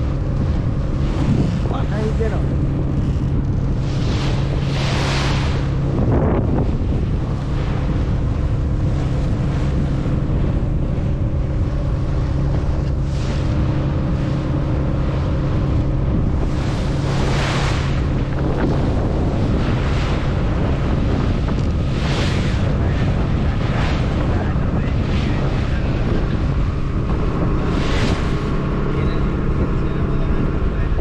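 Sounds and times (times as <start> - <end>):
boat engine running: 0.0 - 31.0
sea water against hull: 0.0 - 31.0
wind buffeting microphone: 0.0 - 31.0.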